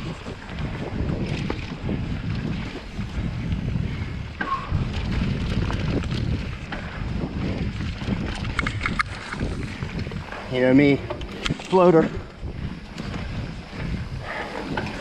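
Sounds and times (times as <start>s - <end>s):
bike clicks and rattles: 0.0s - 15.0s
tyres rumbling on dirt: 0.0s - 15.0s
wind buffeting microphone: 0.0s - 15.0s.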